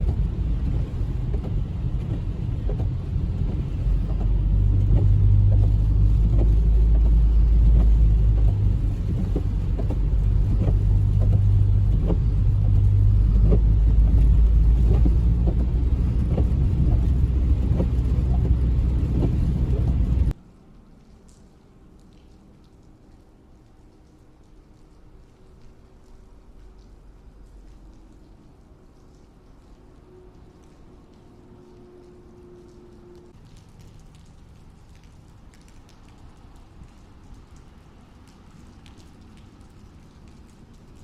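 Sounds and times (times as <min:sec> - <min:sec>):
light ticks: 0:00.0 - 0:41.0
low rumble of traffic: 0:00.0 - 0:41.0.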